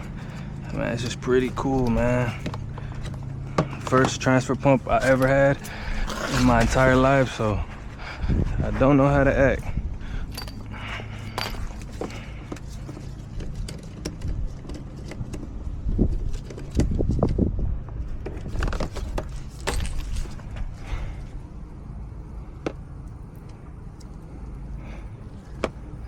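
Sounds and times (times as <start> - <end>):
air conditioning hum: 0.0 - 26.0.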